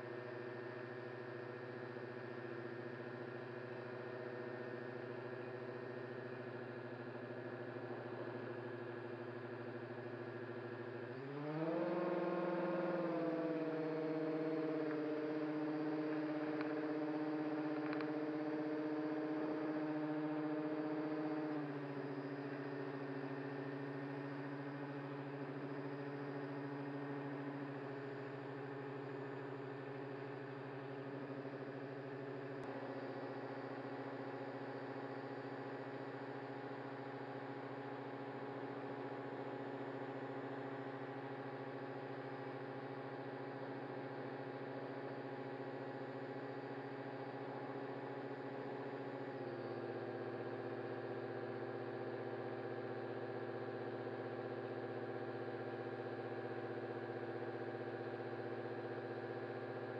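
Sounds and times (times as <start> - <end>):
propeller motors running: 0.0 - 59.9.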